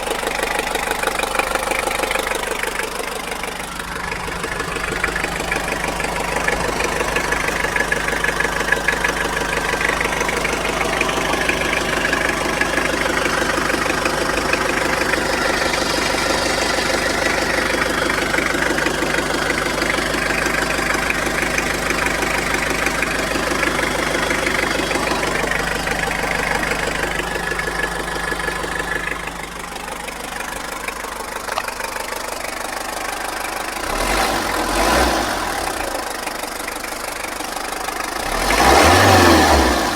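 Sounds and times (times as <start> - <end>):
engine knocking: 0.0 - 39.9.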